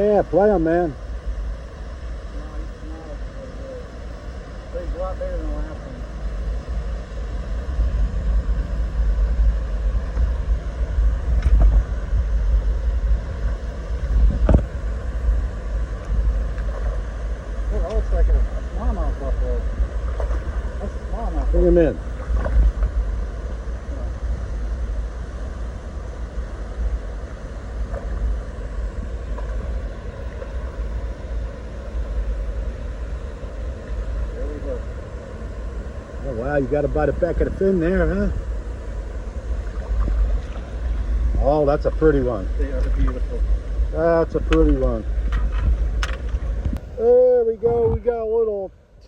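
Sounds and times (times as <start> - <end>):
wind buffeting microphone: 0.0 - 48.6.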